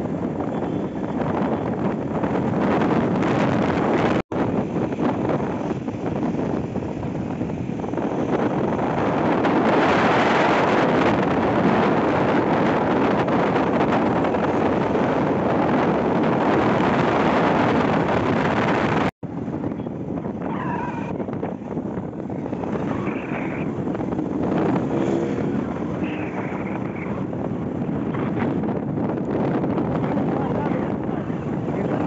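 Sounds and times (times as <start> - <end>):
traffic noise: 0.0 - 32.0
vehicle road noise: 0.0 - 32.0
wind buffeting microphone: 0.0 - 32.0.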